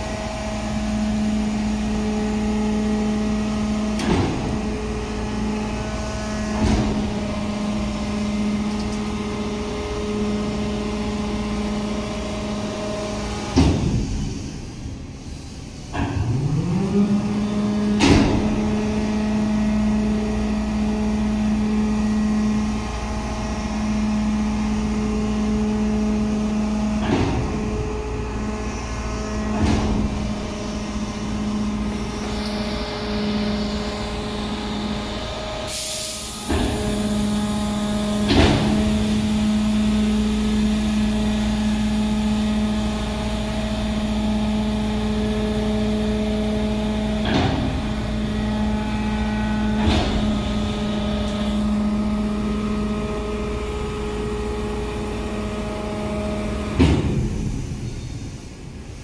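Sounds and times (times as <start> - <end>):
diesel engine and hydraulic pump: 0.0 - 59.0.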